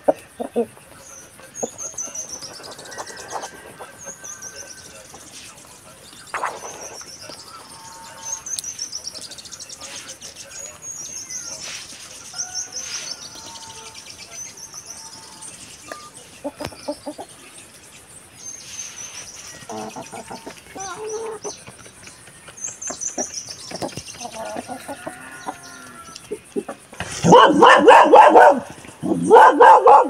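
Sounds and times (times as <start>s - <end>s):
chickens clucking: 0.0s - 30.0s
songbirds trilling: 0.0s - 30.0s.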